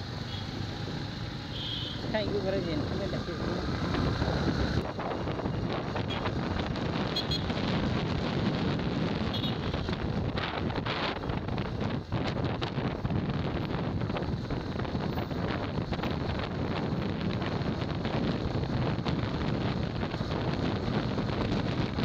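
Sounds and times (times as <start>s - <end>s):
vehicle ride rumble: 0.0s - 22.0s
wind buffeting microphone: 2.0s - 22.0s.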